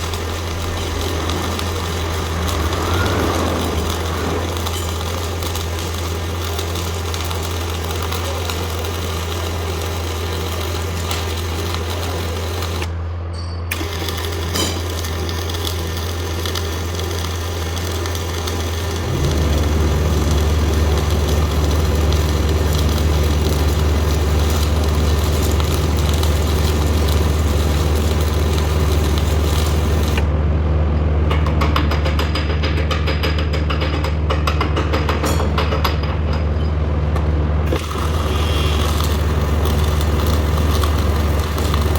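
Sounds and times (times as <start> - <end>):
welding arc crackling: 0.0 - 13.1, 13.7 - 30.4, 31.2 - 41.9
low engine hum: 0.0 - 13.4, 15.2 - 41.9.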